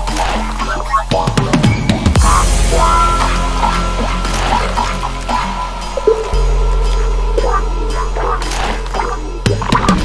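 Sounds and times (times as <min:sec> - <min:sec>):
background music with drums: 0:00.0 - 0:10.0.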